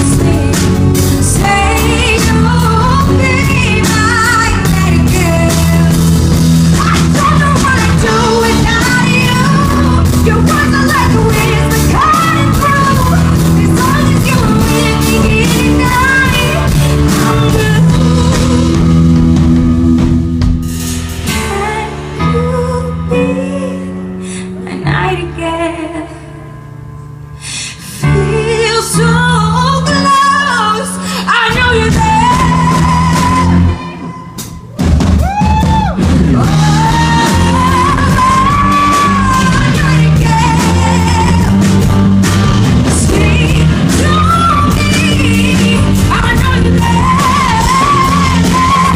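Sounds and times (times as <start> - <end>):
lead singer singing: 0.0 - 20.1, 28.2 - 48.9
live band music: 0.0 - 48.9.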